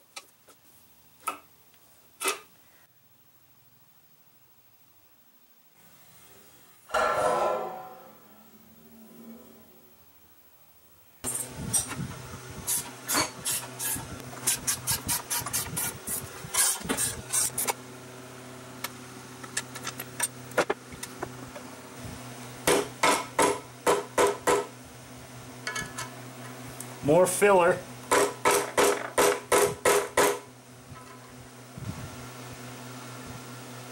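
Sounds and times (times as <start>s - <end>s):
steady low hum: 2.0s - 33.9s.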